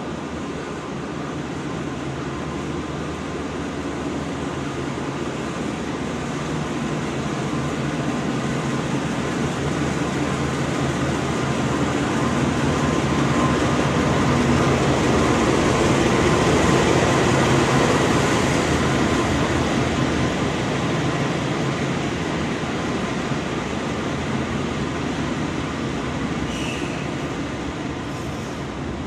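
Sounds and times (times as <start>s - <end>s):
diesel locomotive running: 0.0s - 29.0s.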